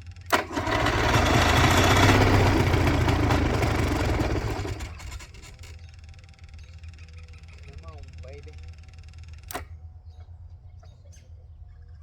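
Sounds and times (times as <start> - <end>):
aircraft engine starting and sputtering: 0.0 - 9.6.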